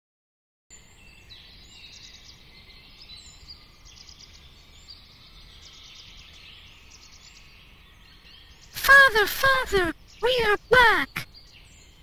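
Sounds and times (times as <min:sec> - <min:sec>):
birds chirping and calling: 0:00.9 - 0:12.0.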